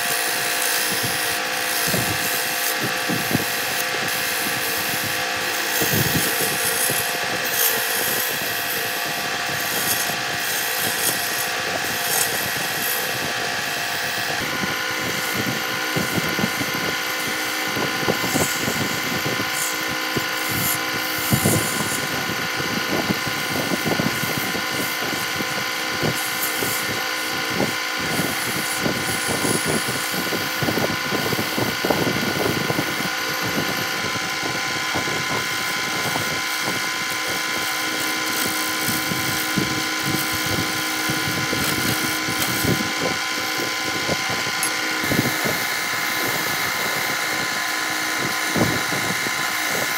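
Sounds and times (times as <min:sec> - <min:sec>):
chisel scraping spinning wood: 0:00.0 - 0:49.9
wood lathe motor hum: 0:00.0 - 0:49.9.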